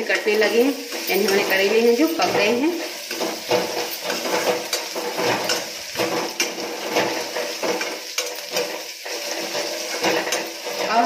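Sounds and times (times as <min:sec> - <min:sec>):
metal spatula scraping a pan: 0:00.0 - 0:11.0
vegetables sizzling in oil: 0:00.0 - 0:11.0.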